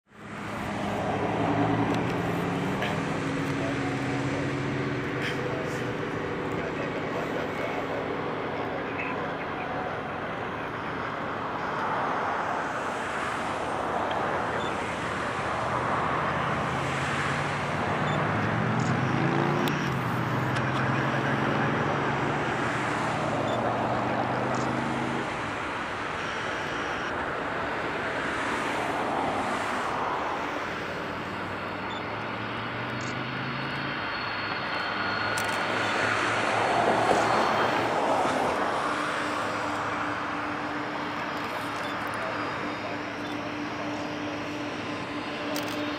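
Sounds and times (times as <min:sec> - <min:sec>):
jet engines rushing: 0:00.1 - 0:45.9.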